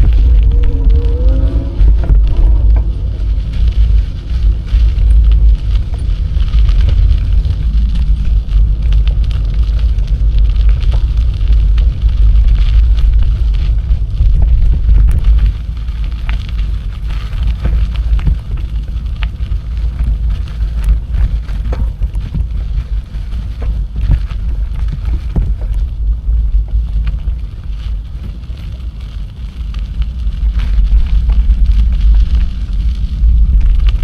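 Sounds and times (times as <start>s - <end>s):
bicycle tyres and rattles: 0.0s - 34.0s
wind buffeting microphone: 0.0s - 34.0s.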